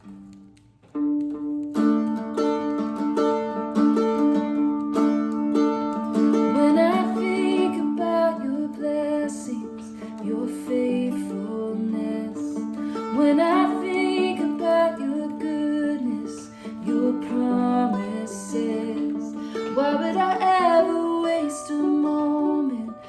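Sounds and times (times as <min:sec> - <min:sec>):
mandolin playing: 0:00.0 - 0:23.0.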